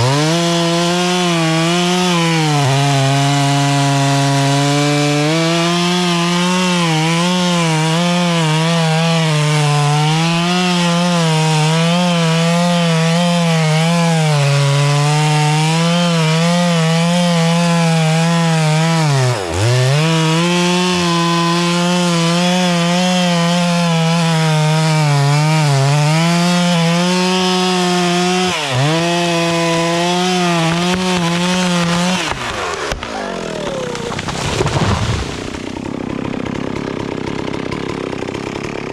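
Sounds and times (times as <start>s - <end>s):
chainsaw cutting tree trunk: 0.0s - 38.9s.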